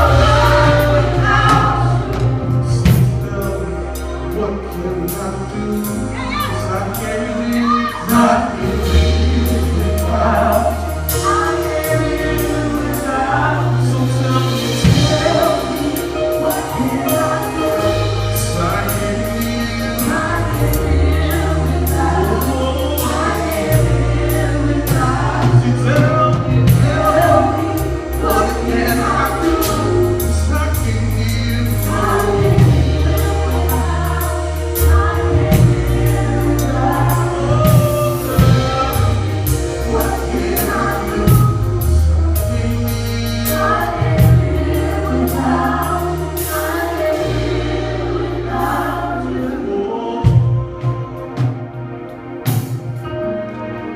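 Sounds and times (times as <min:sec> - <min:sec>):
drums hitting: 0:00.0 - 0:03.6, 0:08.0 - 0:49.0
gospel choir singing: 0:00.0 - 0:53.9
held bass notes: 0:00.0 - 0:53.9.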